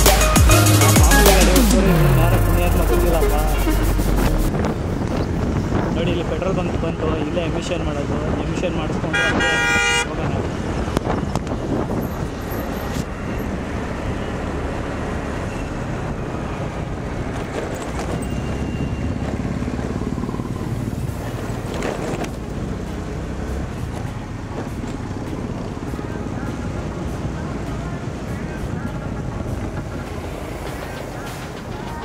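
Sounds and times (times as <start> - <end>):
traffic and road noise: 0.0 - 32.0
vehicle passing: 1.4 - 6.8, 10.3 - 32.0
wind rumble on microphone: 3.9 - 9.5, 10.1 - 31.6.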